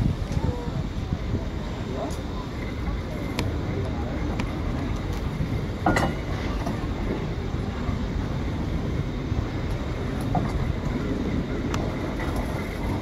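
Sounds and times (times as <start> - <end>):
train carriage rumble: 0.0 - 13.0
wind on microphone: 0.0 - 13.0.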